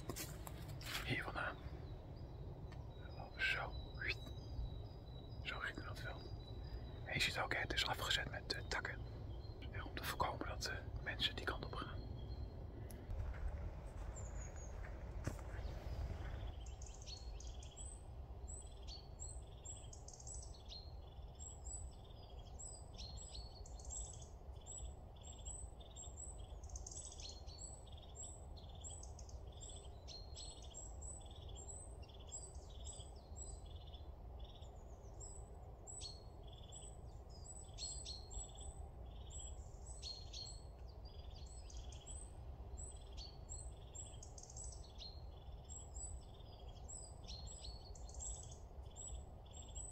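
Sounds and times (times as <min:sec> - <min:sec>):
faint low rumble: 0:00.0 - 0:49.9
small birds chirping: 0:00.0 - 0:49.9.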